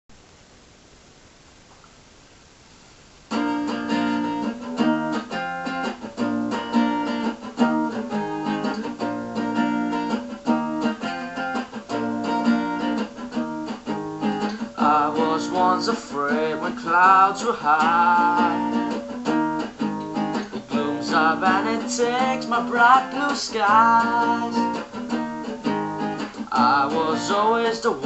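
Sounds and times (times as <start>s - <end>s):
faint hiss: 0.1s - 28.0s
acoustic guitar strumming chords: 3.3s - 28.0s.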